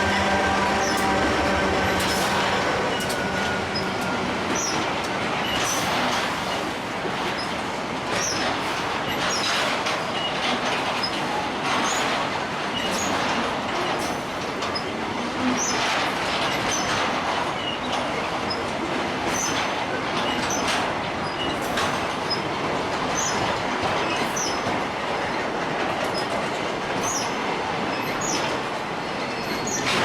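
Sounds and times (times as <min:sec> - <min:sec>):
train wheels clacking over rail joints: 0:00.0 - 0:30.0.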